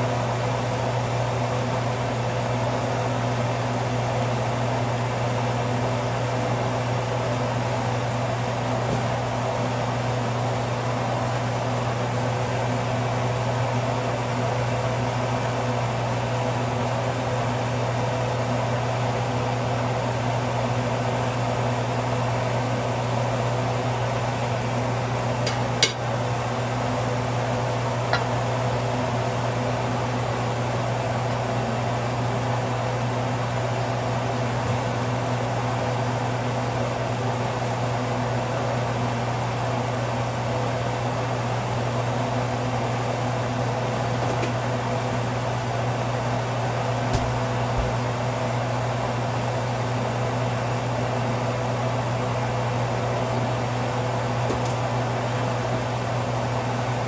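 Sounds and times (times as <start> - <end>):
fan humming: 0.0 - 57.0.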